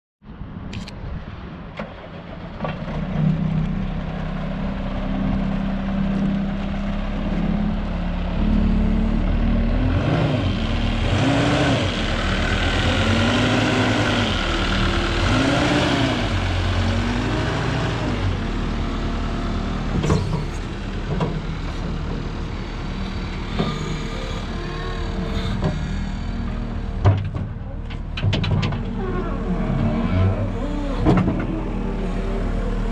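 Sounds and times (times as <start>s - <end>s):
diesel engine revving: 2.1s - 32.9s.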